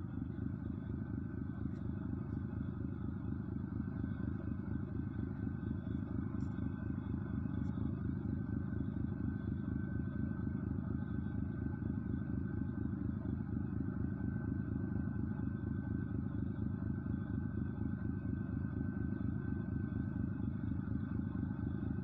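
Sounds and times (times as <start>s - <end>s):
engine running with whine: 0.0s - 22.0s.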